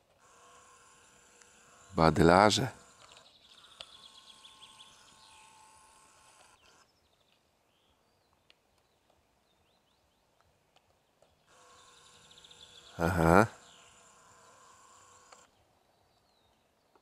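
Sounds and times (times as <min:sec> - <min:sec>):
distant bird chirps: 0:00.0 - 0:17.0.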